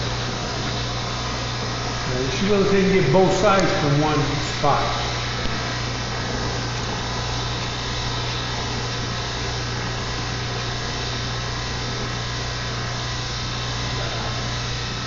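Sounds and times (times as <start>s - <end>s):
steady low hum: 0.0s - 15.0s
torch flame hissing: 0.0s - 15.0s.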